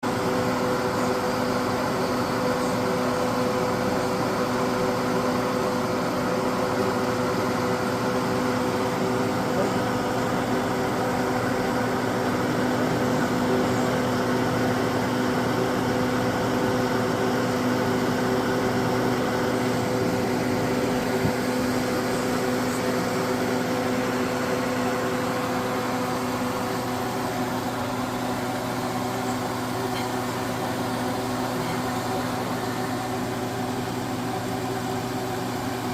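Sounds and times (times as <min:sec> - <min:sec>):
air fryer fan whirring: 0:00.0 - 0:35.9.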